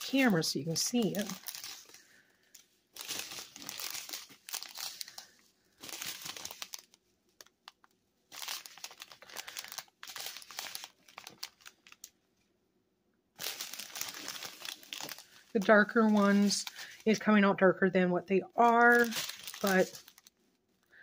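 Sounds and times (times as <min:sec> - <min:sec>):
plastic packets crinkling: 0:00.0 - 0:12.2, 0:13.4 - 0:17.4, 0:18.4 - 0:20.9.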